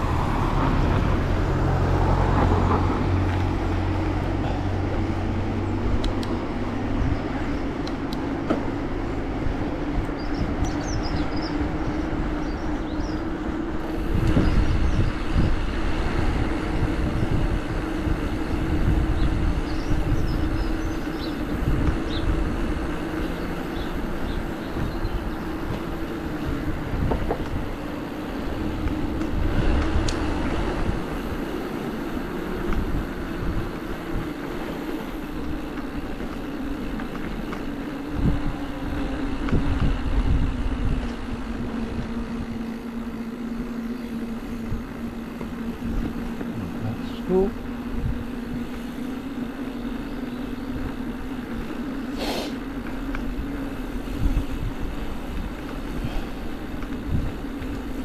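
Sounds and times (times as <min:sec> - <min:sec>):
vehicle motor drone: 0:00.0 - 0:58.0
wind rumble on microphone: 0:00.0 - 0:58.0.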